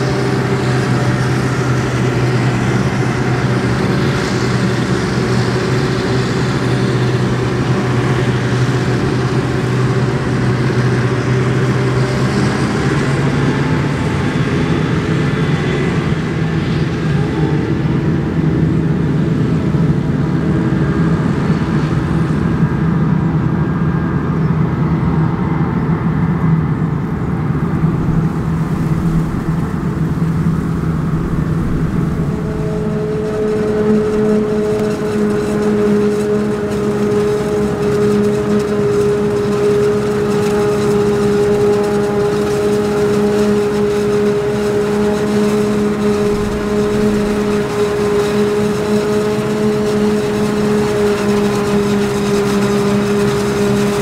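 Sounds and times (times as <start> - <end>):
tractor engine: 0.0 - 23.6, 25.6 - 54.0
forage harvester droning: 0.0 - 54.0.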